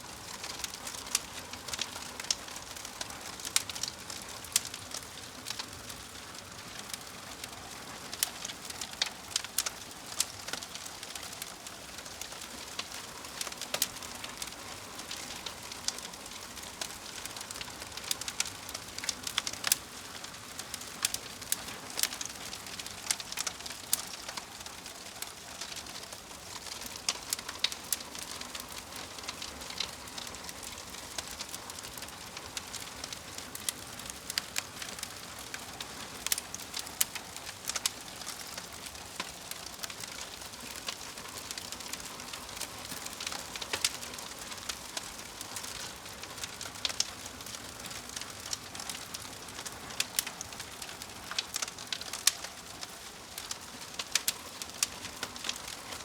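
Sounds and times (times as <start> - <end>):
wood fire crackling and hissing: 0.0 - 56.0.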